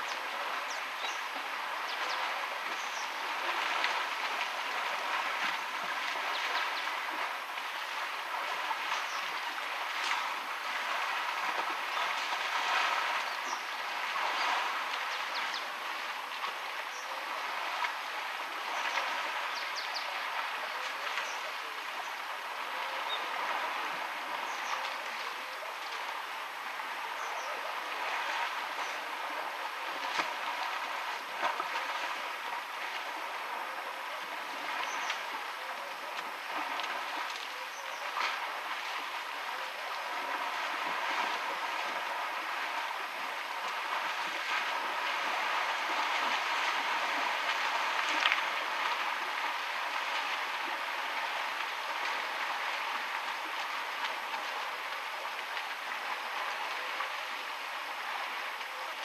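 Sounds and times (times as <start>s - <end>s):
elephants splashing in water: 0.0s - 59.0s
river flowing: 0.0s - 59.0s.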